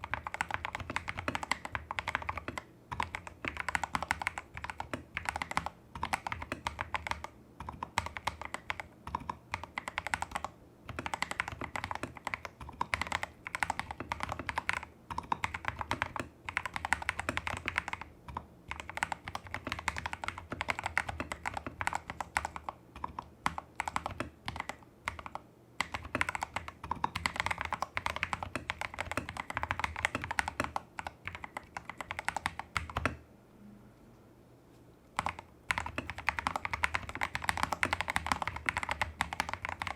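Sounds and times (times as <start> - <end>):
mechanical keyboard typing: 0.0 - 33.2, 35.2 - 39.9.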